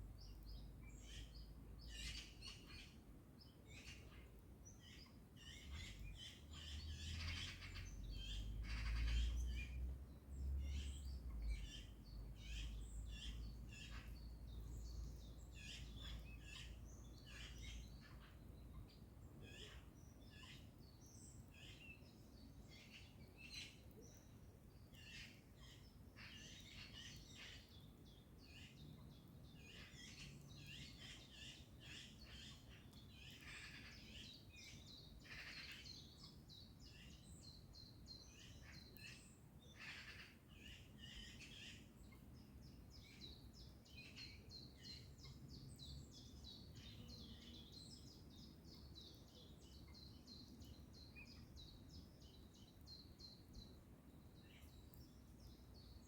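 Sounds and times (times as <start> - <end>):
low steady background hum: 0.0 - 56.0
small birds chirping: 0.0 - 56.0.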